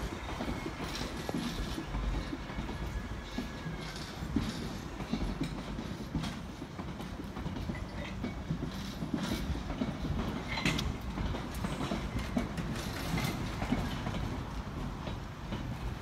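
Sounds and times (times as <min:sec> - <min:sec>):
train rumbling past: 0:00.0 - 0:16.0
wheels clacking over rail joints: 0:00.0 - 0:16.0.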